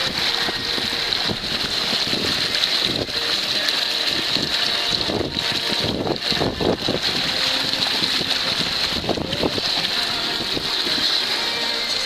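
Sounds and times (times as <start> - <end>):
wind buffeting microphone: 0.0 - 11.3
water rushing past boat hull: 0.0 - 12.0.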